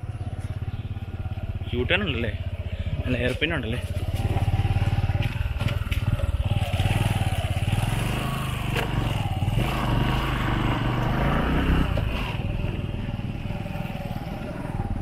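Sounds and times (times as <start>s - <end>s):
motorcycle engine climbing: 0.0s - 15.0s.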